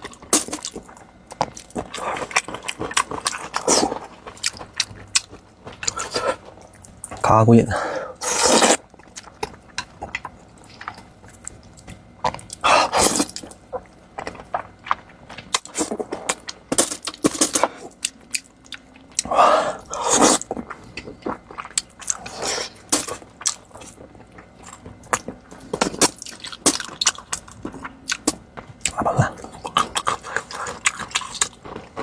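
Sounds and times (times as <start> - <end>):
close chewing: 0.0 - 7.5, 8.1 - 32.0.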